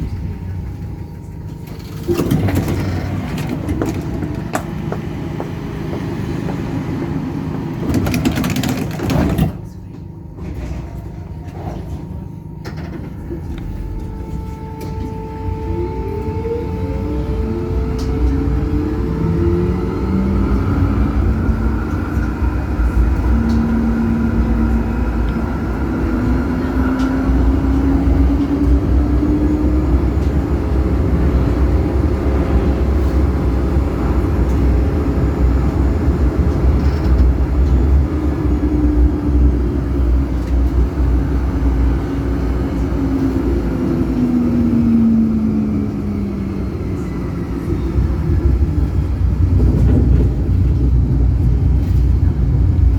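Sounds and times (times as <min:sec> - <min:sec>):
tram motors whining: 0:00.0 - 0:52.9
wheels rumbling on rails: 0:00.0 - 0:52.9.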